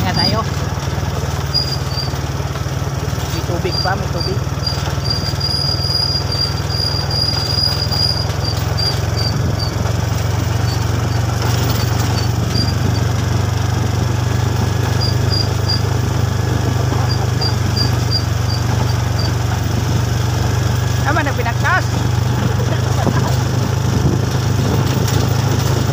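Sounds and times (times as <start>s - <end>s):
small motorcycle engine running: 0.0s - 25.9s.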